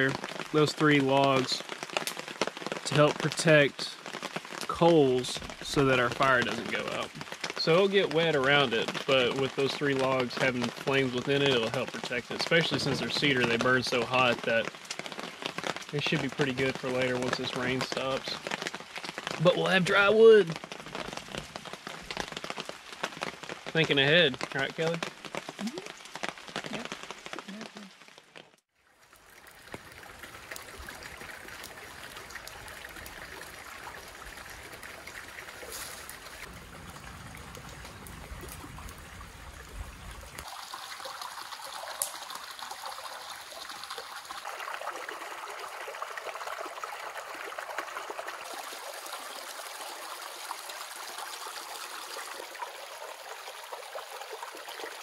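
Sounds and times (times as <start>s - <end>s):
creek babbling over stones: 0.0s - 55.0s.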